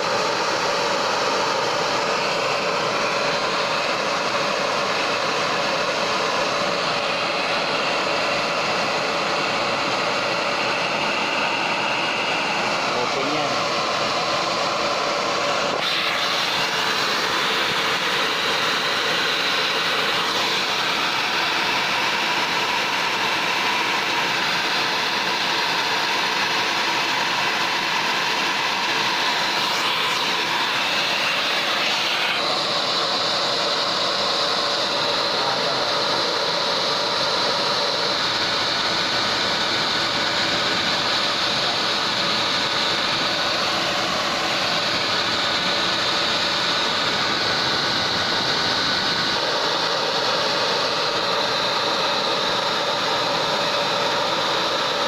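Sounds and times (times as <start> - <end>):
high whine: 0.0 - 55.0.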